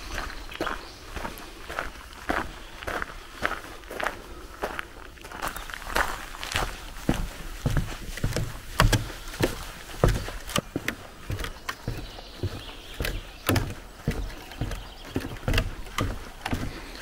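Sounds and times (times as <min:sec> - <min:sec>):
footsteps walking: 0:00.0 - 0:17.0.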